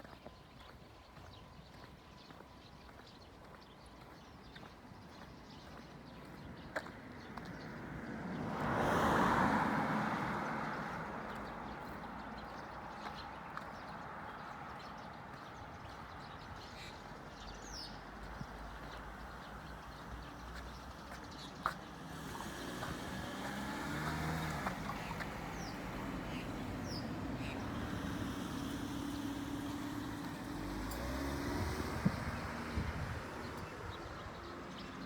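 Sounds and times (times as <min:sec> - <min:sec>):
background traffic noise: 0:00.0 - 0:35.0
road vehicle passing: 0:05.7 - 0:35.0.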